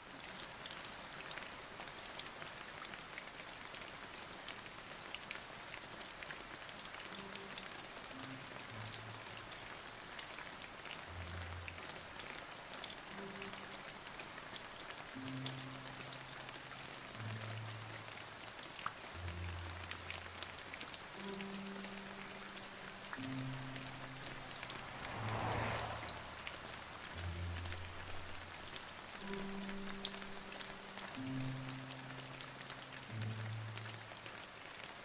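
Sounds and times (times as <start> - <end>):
steady rain falling: 0.0 - 35.0
faint low held music notes: 6.0 - 34.3.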